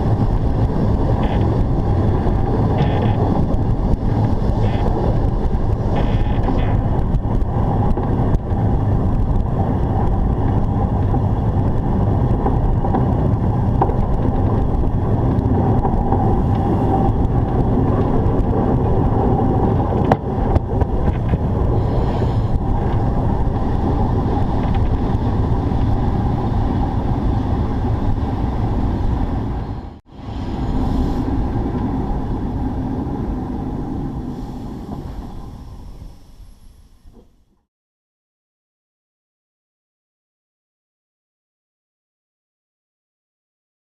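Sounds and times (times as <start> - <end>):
wind buffeting microphone: 0.0 - 37.2
steam locomotive rumbling: 0.0 - 37.6.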